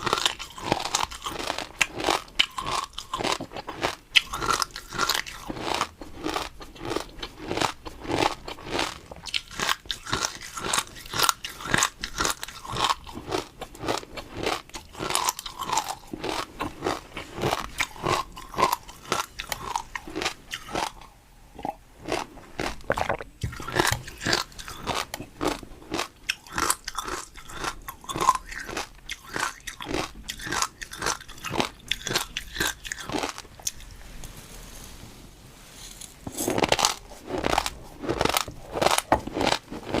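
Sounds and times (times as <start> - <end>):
crunching crisp food: 0.0 - 34.3, 36.2 - 40.0.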